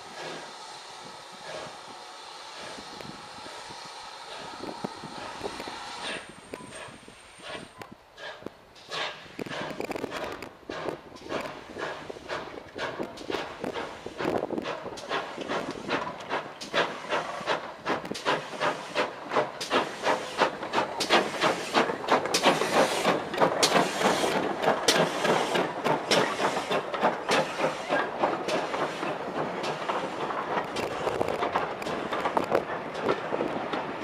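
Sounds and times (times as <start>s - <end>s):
coaches rolling on rails: 0.0s - 34.0s
steam hiss: 0.0s - 34.0s
steam locomotive chuffing: 0.0s - 34.0s.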